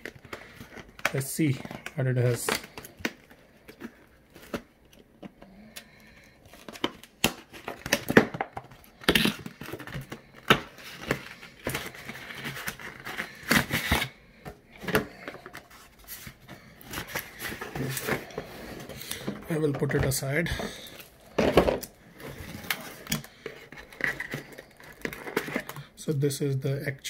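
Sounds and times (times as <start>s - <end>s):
paper and cardboard crinkling: 0.0s - 5.4s, 6.2s - 25.9s.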